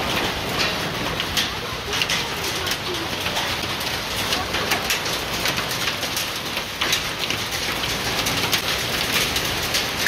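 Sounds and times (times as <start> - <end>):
heavy rain and hail falling: 0.0 - 10.0
sharp ticks of hail impacts: 0.0 - 10.0.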